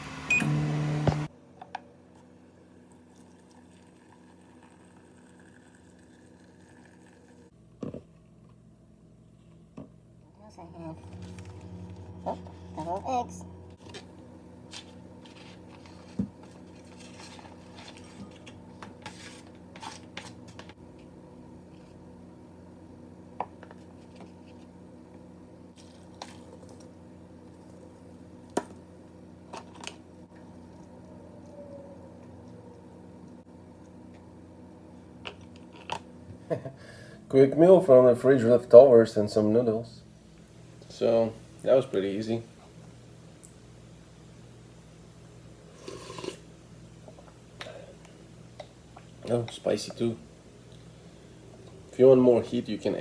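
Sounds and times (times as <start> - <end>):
kitchen appliance hum: 0.0 - 8.6, 9.2 - 53.0.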